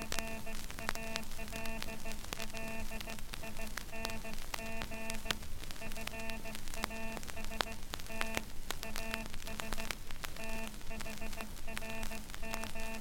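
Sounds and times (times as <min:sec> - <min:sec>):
morse code buzzing tone: 0:00.0 - 0:13.0
record pops: 0:00.0 - 0:13.0
record surface crackle: 0:00.0 - 0:13.0.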